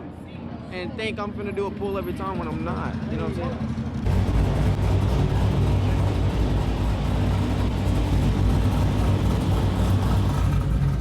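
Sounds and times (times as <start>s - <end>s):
car engine rumbling: 1.2s - 11.0s.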